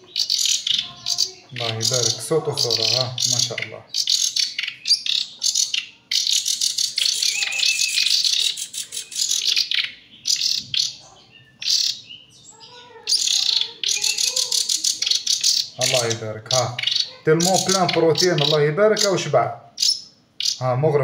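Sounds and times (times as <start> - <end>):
bird chicks begging calls: 0.0 - 21.0.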